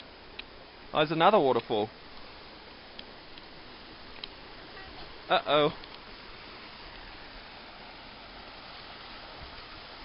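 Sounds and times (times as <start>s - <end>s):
stream and waterfall rushing: 0.0s - 10.0s.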